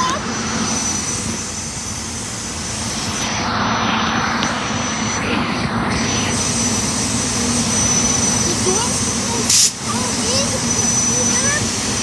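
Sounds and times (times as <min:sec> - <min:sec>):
electric train running past: 0:00.0 - 0:12.0.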